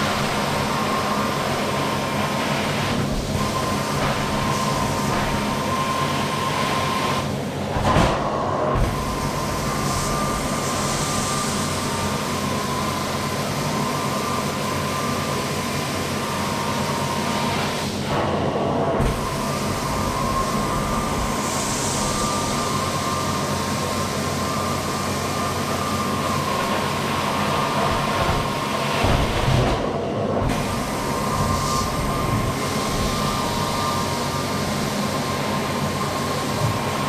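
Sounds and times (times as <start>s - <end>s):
carpet extraction machine suction: 0.0s - 37.0s
constant whistling tone: 0.0s - 37.0s.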